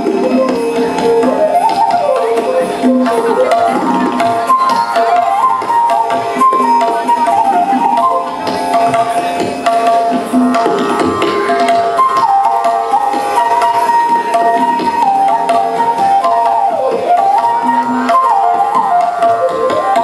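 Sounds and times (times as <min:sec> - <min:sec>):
flute melody with sliding notes: 0:00.0 - 0:20.0
tabla drums: 0:00.0 - 0:20.0.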